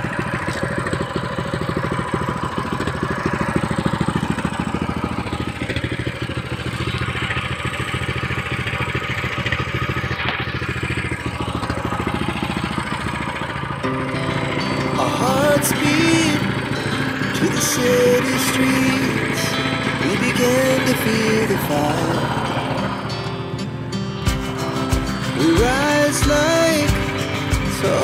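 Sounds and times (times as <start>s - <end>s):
small petrol engine running: 0.0s - 28.0s.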